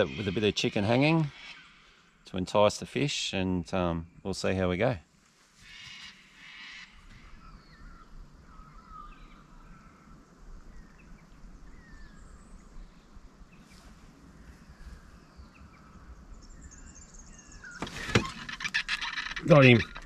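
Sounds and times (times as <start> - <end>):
birds calling: 0.0 - 2.9, 5.6 - 20.0.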